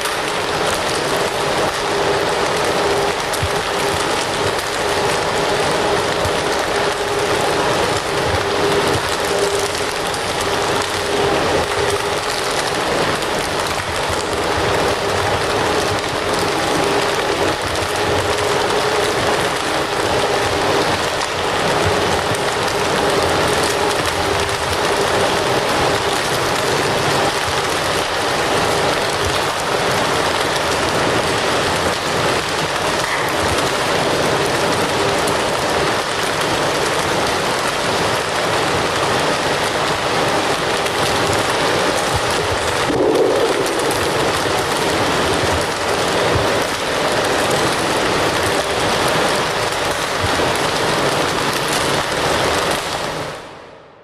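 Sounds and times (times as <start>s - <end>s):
fire crackling: 0.0s - 53.7s.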